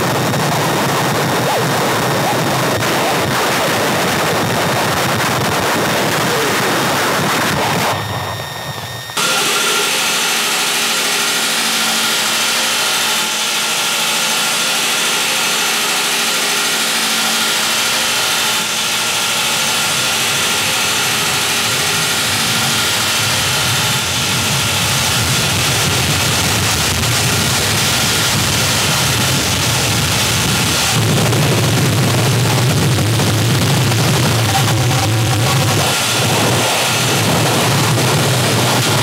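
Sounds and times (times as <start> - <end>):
drone of held tones: 1.0 - 39.0.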